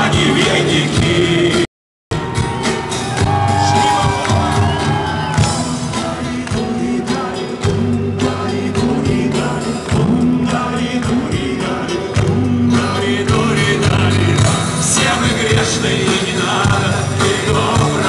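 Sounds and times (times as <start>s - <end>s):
person singing: 0.0s - 18.0s
rock band playing: 0.0s - 18.0s
steady drum beat: 0.0s - 18.0s
sustained bass notes: 0.0s - 18.0s.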